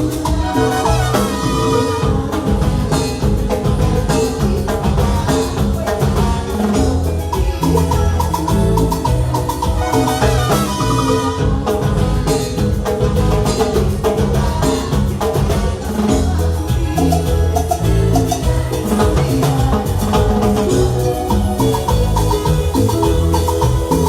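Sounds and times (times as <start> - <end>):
live band playing instrumental: 0.0 - 24.0.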